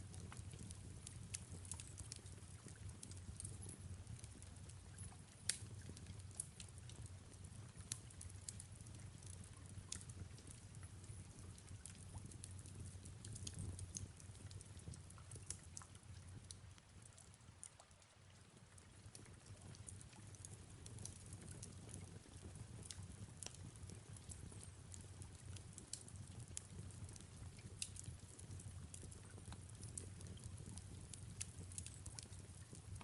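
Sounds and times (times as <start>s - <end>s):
fireplace crackling: 0.0s - 33.0s.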